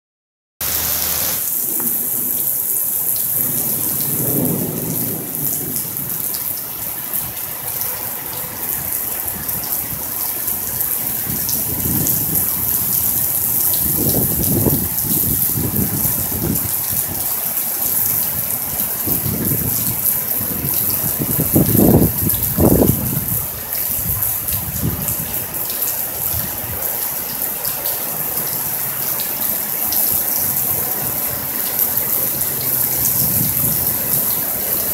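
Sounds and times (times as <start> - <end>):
rain hissing: 0.6 - 34.9
thunder rumbling: 0.6 - 34.9.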